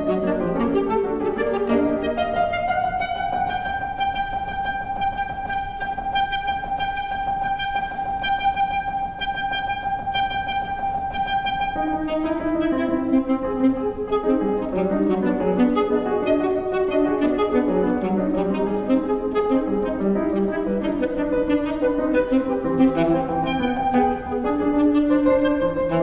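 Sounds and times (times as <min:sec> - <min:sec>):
alto saxophone: 0:00.0 - 0:26.0
grand piano: 0:00.0 - 0:26.0.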